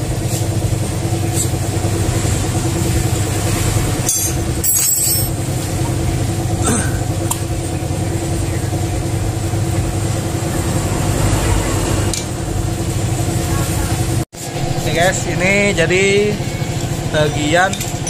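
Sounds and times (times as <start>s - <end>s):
engine idling drone: 0.0s - 18.0s.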